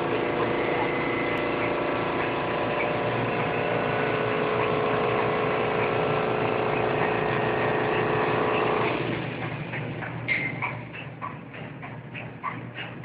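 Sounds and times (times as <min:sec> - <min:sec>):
machine motor hum: 0:00.0 - 0:13.0.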